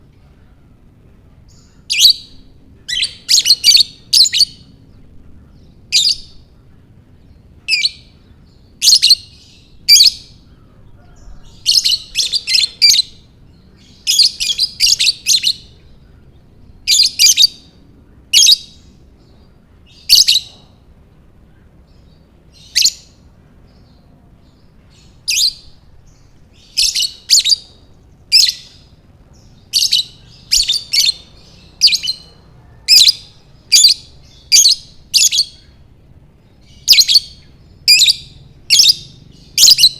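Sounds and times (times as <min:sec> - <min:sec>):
lovebird chirping: 0:01.5 - 0:20.9, 0:21.5 - 0:39.9.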